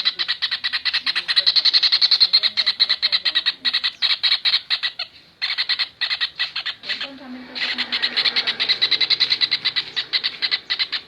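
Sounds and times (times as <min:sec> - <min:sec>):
bird chattering call: 0:00.0 - 0:11.0.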